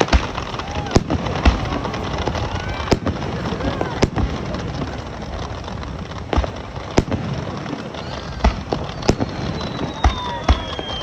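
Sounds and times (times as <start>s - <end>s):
crackling background hiss: 0.0s - 11.0s
fireworks bangs: 0.0s - 11.0s.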